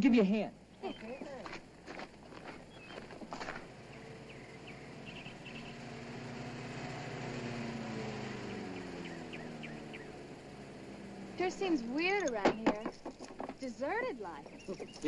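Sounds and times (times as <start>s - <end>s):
pickup truck engine: 0.6s - 15.0s.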